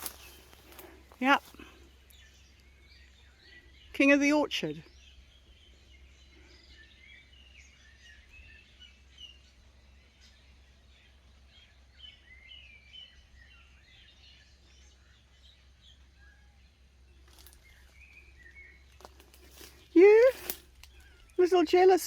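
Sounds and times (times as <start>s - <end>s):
birds chirping and warbling: 0.0s - 22.0s.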